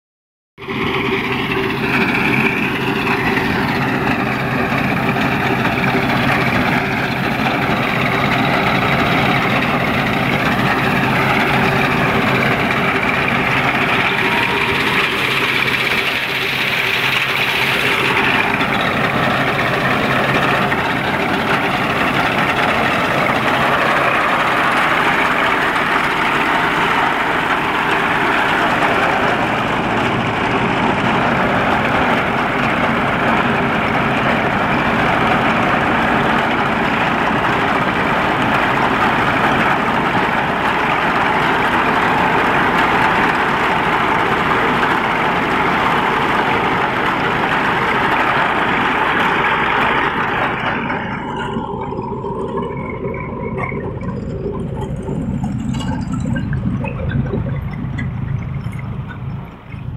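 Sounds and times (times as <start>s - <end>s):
tractor diesel engine running: 0.6s - 59.9s.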